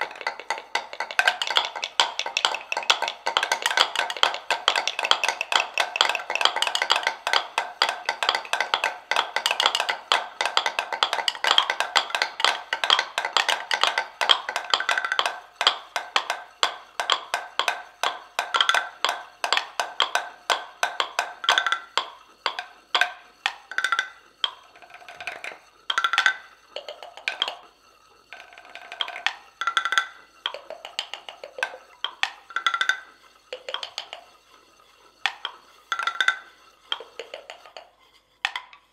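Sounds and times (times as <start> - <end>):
wooden mortars struck as percussion: 0.0 - 34.4, 35.2 - 38.9.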